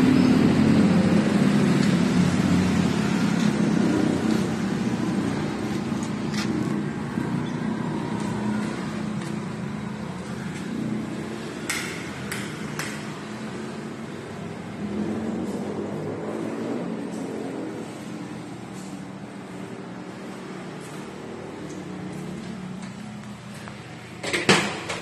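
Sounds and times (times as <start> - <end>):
engine running low hum: 0.0 - 25.0.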